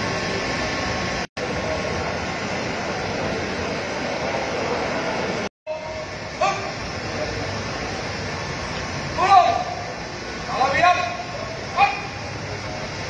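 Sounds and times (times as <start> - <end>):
hall background hiss: 0.0 - 13.0.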